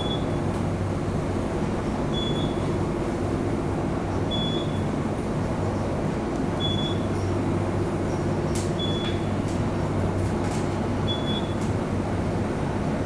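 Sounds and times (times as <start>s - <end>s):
elevator hum and rumble: 0.0s - 13.0s.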